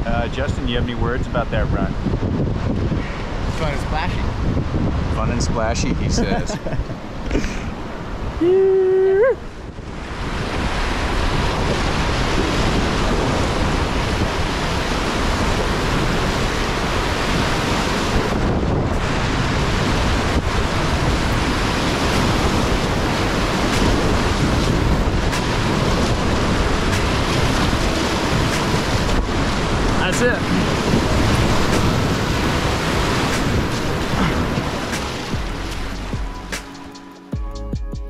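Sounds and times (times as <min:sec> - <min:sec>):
wind buffeting microphone: 0:00.0 - 0:36.7
whitewater rushing: 0:06.0 - 0:36.7.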